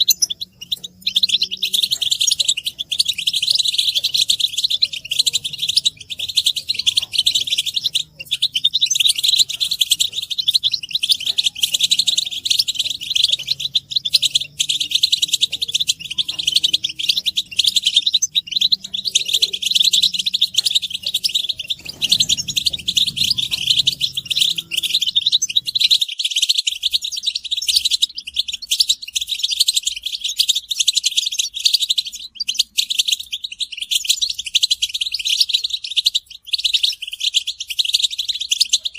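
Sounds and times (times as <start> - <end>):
flock of finches chattering: 0.0 - 38.9.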